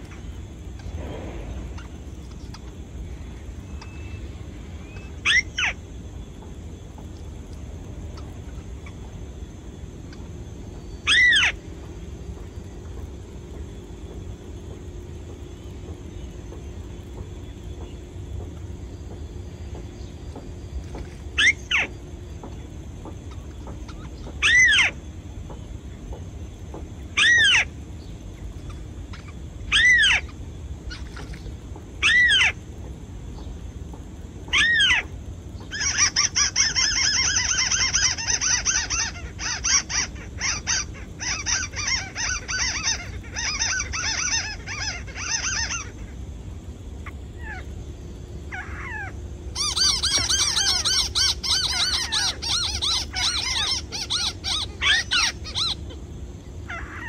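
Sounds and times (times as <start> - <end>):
downward-sliding bird calls: 0.0 - 25.7, 28.6 - 32.6, 34.4 - 57.0
rapid chattering bird calls: 0.0 - 57.0.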